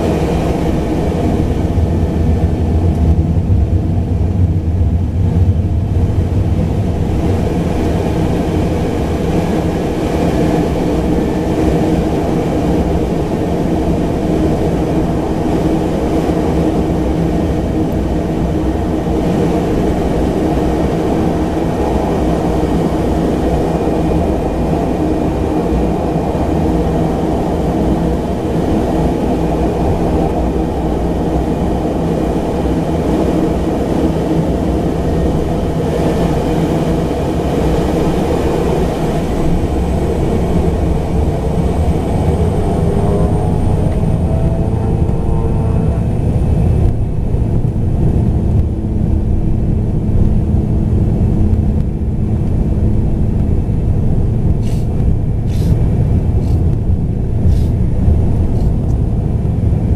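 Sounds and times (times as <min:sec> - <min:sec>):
turboprop cabin drone: 0:00.0 - 0:59.9.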